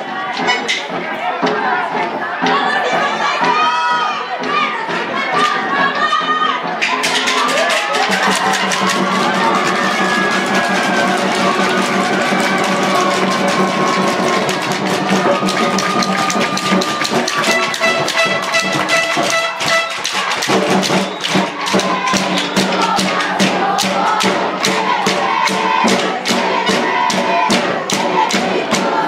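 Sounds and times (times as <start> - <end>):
fast percussion beat: 0.0 - 29.0
music with held notes: 0.0 - 29.0.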